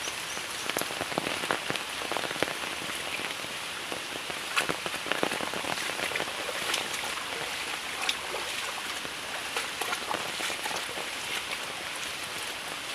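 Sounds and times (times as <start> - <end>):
rain falling: 0.0 - 12.9
raindrops hitting nearby: 0.0 - 12.9.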